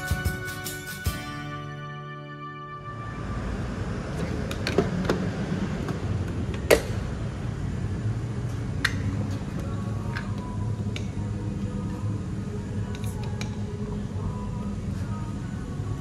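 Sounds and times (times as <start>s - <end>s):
steady low hum: 2.7s - 16.0s.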